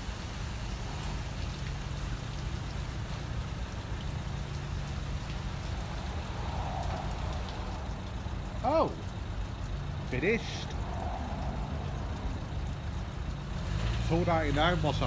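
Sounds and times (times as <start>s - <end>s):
water spraying and dripping: 0.0s - 15.0s.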